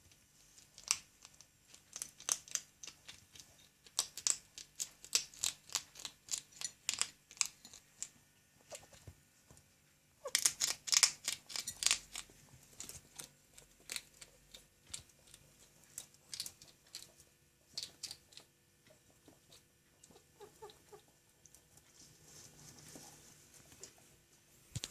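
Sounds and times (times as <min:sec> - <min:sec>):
hedgehog crunching food: 0:00.4 - 0:09.1, 0:10.2 - 0:24.0.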